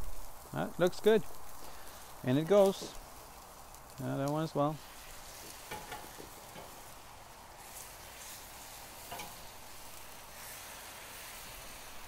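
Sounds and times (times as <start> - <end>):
liquid sizzling in a wok: 0.0 - 12.0.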